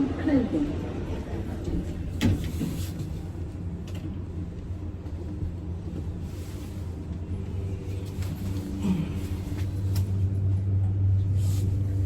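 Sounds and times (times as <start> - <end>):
lift hum and rumble: 0.0 - 12.0.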